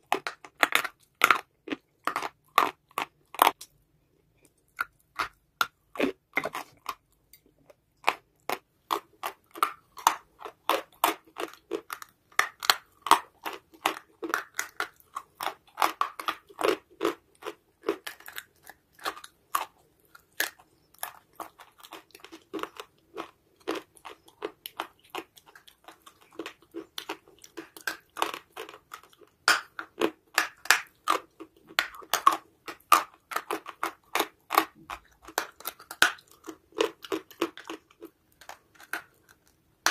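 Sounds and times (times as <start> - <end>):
crunching and chewing chalky clay: 0.0 - 39.9.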